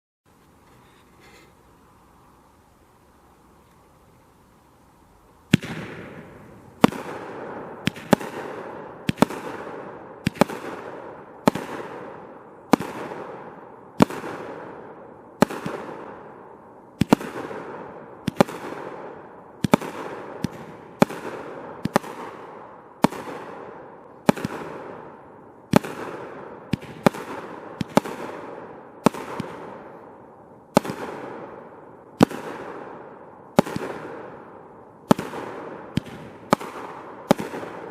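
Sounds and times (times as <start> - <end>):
firework bangs: 5.5 - 37.9.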